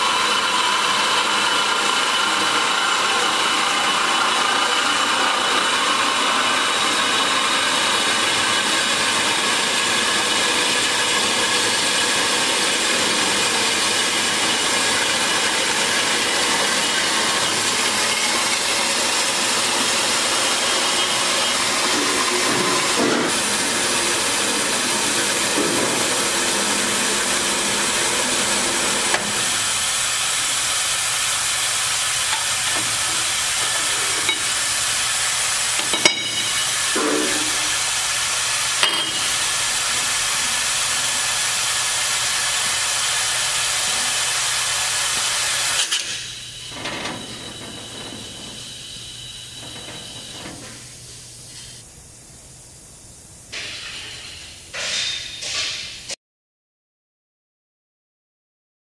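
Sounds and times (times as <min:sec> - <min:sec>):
bandsaw running: 0:00.0 - 0:51.8.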